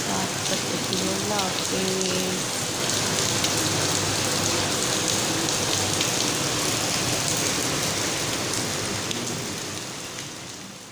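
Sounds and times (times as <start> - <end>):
rain on concrete and trees: 0.0 - 10.9.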